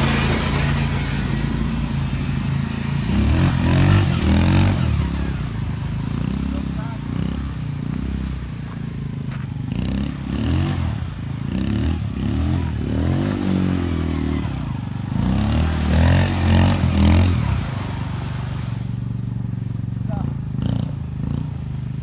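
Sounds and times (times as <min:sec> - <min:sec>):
quad engine revving: 0:00.0 - 0:22.0.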